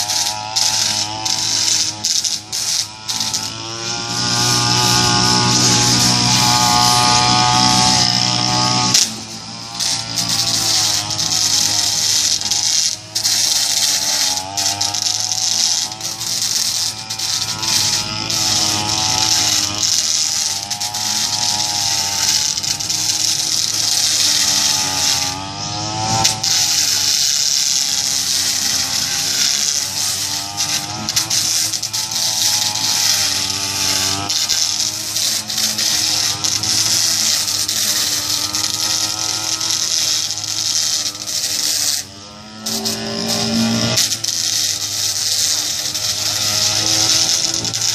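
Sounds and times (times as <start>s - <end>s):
blade grinding on concrete: 0.0s - 47.9s
brush cutter engine running: 0.0s - 47.9s.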